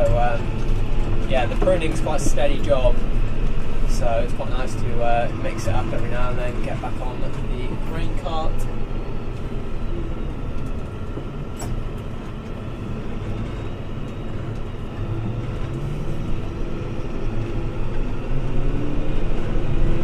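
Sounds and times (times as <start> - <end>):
steady cab rumble: 0.0 - 20.0
tractor engine running: 0.0 - 20.0.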